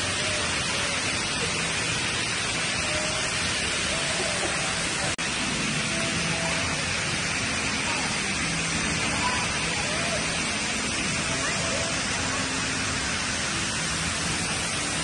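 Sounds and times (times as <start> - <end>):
faint voices: 0.0 - 15.0
water rushing down a wall: 0.0 - 15.0.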